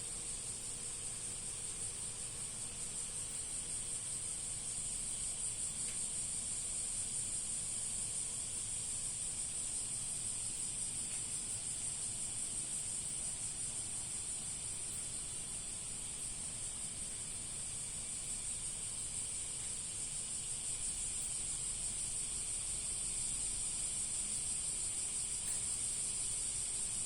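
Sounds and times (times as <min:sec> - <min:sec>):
steady high-pitched hiss: 0:00.0 - 0:27.0.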